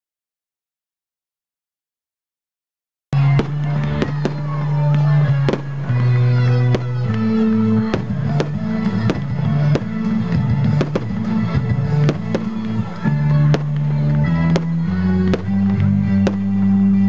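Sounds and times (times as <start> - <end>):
fireworks bangs and crackles: 3.2 - 17.0
music with bass notes: 3.2 - 17.0.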